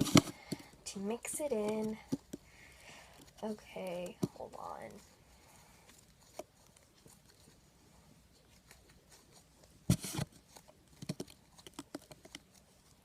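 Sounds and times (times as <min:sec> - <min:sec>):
hands kneading slime: 0:00.0 - 0:13.0.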